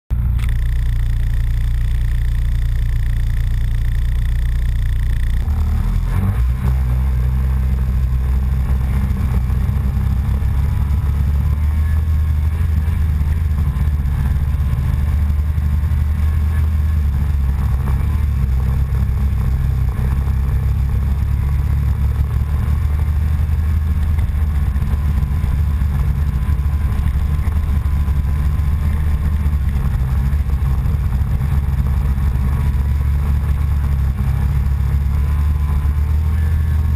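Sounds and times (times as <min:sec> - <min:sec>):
low rumble on microphone: 0:00.1 - 0:36.9
off-road vehicle engine: 0:00.1 - 0:36.9.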